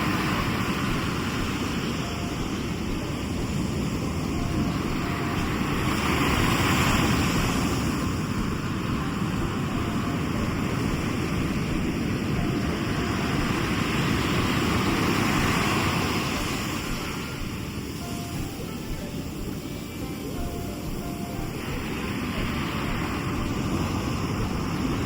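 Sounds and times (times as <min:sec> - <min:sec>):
waves washing onto shore: 0:00.0 - 0:25.0.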